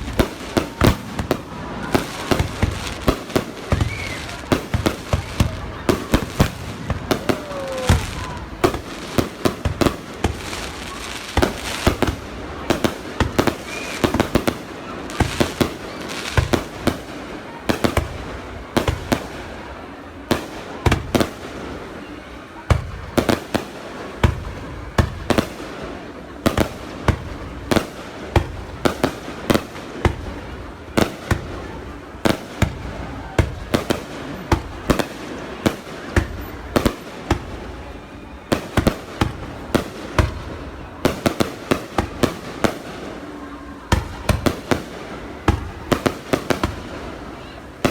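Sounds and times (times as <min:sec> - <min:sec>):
fireworks bangs and pops: 0:00.0 - 0:47.9
rumble of distant fireworks: 0:00.0 - 0:47.9.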